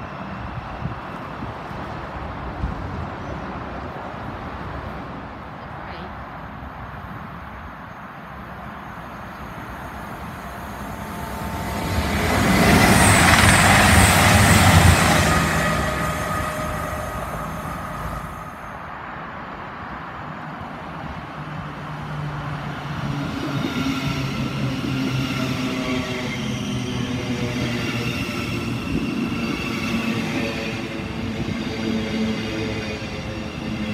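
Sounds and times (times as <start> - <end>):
diesel train passing at speed: 0.0 - 33.9.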